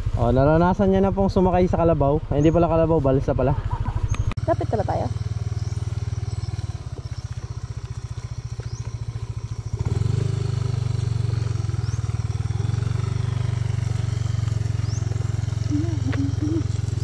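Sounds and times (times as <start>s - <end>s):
motorcycle engine pulsing hum: 0.0s - 17.0s.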